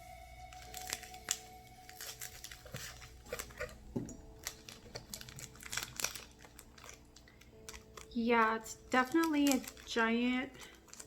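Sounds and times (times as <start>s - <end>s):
plastic wrapper crinkling and tearing: 0.4s - 11.0s.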